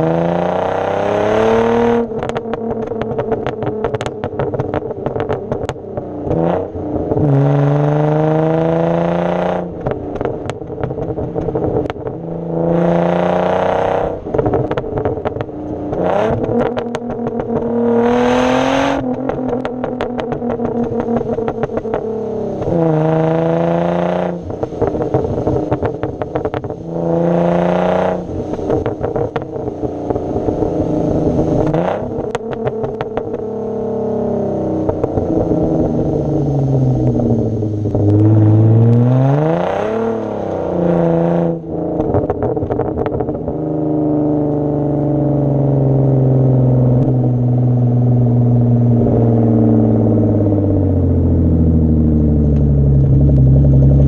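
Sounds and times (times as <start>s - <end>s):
car exhaust revving: 0.0s - 54.0s
engine droning: 0.0s - 54.0s
exhaust crackling: 0.0s - 54.0s.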